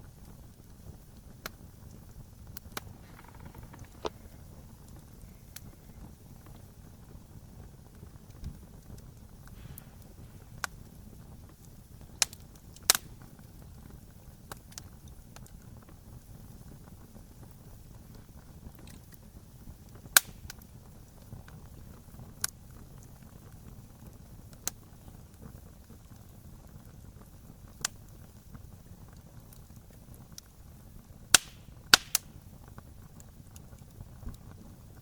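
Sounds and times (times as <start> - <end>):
fire popping: 0.0 - 35.0
wood fire crackling: 0.0 - 35.0.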